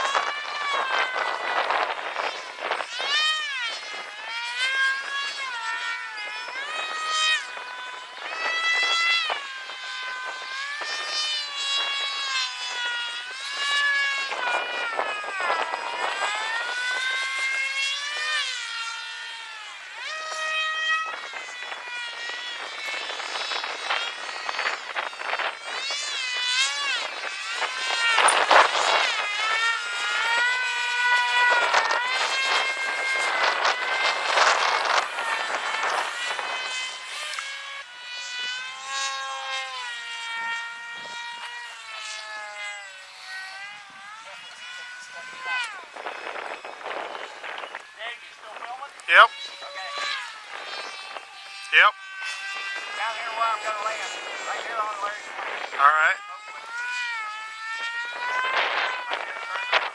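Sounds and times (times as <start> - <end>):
model airplane motor whining: 0.0 - 59.9.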